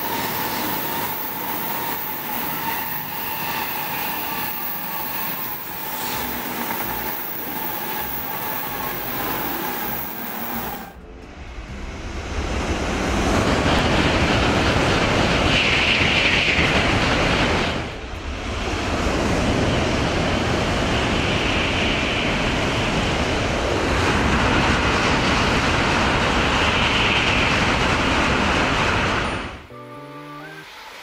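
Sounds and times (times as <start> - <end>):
high-speed train passing: 0.0 - 31.0.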